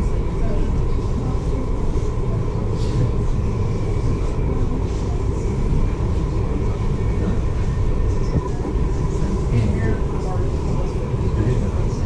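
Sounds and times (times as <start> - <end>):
faint voices: 0.0 - 12.0
large vehicle rumbling: 0.0 - 12.0.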